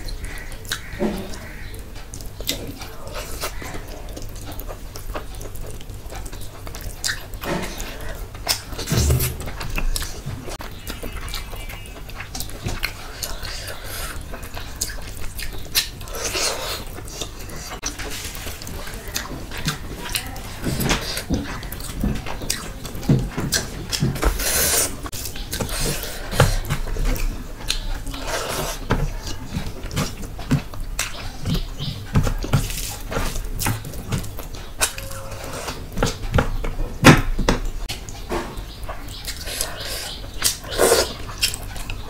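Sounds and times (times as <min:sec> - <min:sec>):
wet chewing and lip smacks: 0:00.0 - 0:24.2, 0:24.9 - 0:36.7, 0:37.6 - 0:42.0
squelching food mixed by hand: 0:00.0 - 0:36.9.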